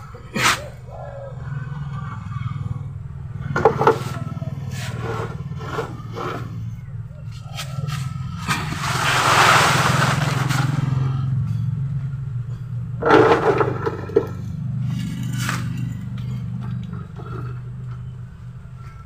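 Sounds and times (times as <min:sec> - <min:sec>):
steady low drone: 0:00.0 - 0:19.0.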